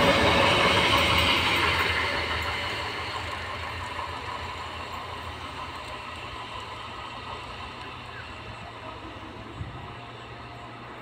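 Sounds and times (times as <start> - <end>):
train passing on rails: 0.0 - 11.0.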